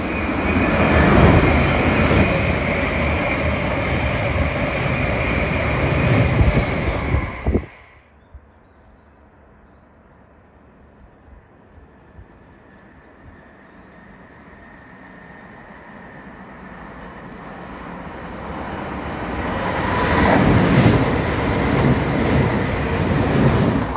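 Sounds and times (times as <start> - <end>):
train approaching and passing: 0.0 - 23.9.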